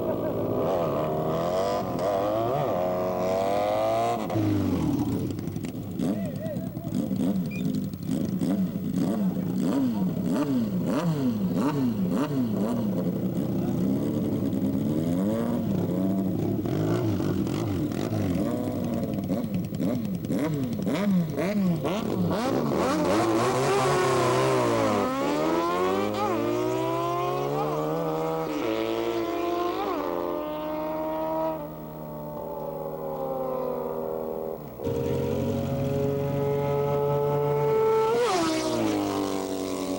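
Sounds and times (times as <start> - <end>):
motorcycle accelerating through gears: 0.0 - 39.9
motorcycle engines revving: 0.0 - 39.9.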